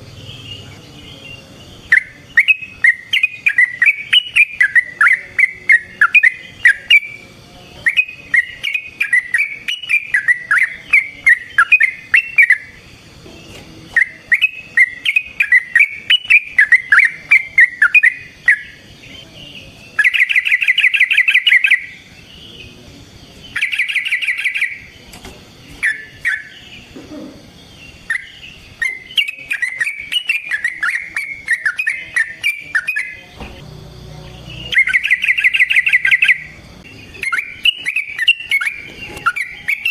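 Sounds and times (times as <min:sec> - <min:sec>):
bird warbling song: 0:00.0 - 0:33.6, 0:34.2 - 0:39.9
bird chattering rolls: 0:01.8 - 0:19.2, 0:23.4 - 0:27.0, 0:27.8 - 0:33.6, 0:34.6 - 0:39.9.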